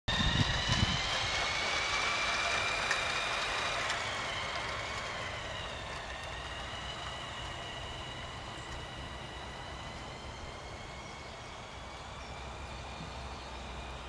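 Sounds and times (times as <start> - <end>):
toy train motor whine: 0.1 - 14.0.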